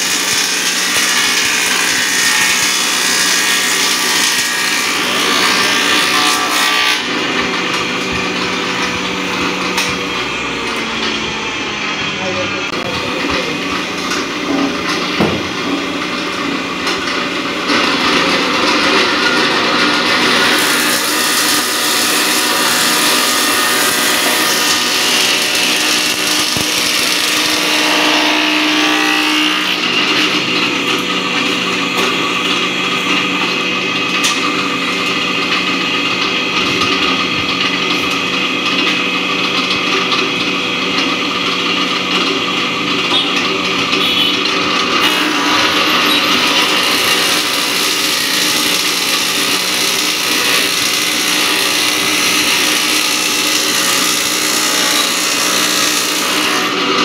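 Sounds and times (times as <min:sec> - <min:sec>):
electric wood planer running: 0:00.0 - 0:57.0.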